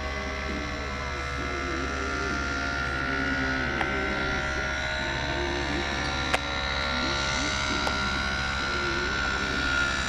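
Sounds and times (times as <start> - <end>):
ultralight engine and propeller: 0.0 - 10.0.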